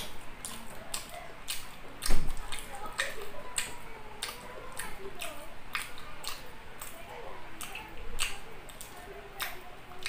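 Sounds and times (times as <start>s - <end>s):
man chewing with wet smacks: 0.0s - 10.0s.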